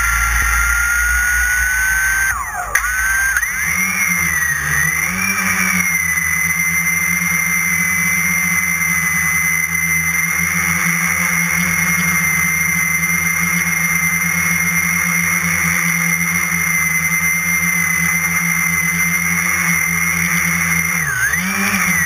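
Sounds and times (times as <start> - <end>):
quadcopter propellers whining: 0.0 - 22.0.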